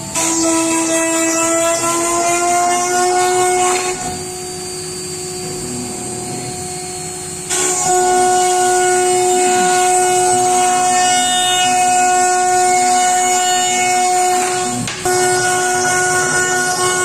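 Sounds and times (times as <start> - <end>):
router spindle cutting wood: 0.0 - 17.0.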